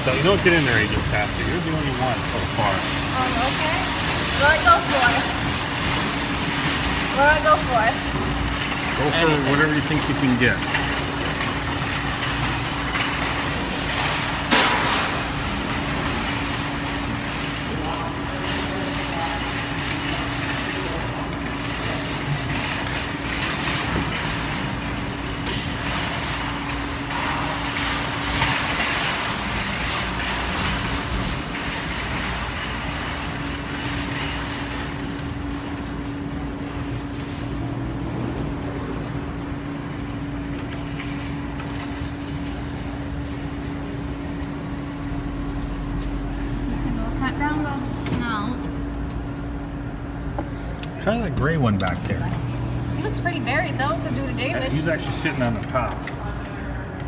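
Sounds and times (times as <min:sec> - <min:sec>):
arcade machine noise: 0:00.0 - 0:57.0
constant hum: 0:00.0 - 0:57.0.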